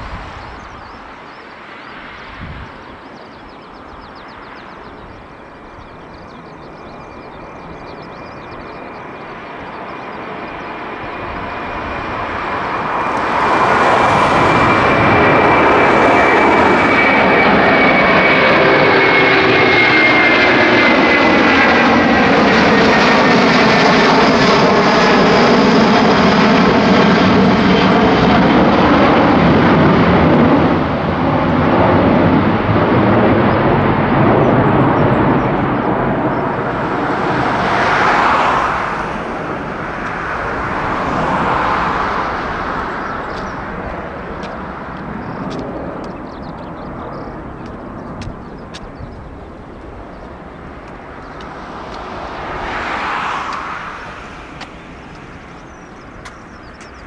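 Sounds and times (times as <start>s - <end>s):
jet plane engine noise: 0.0s - 57.0s.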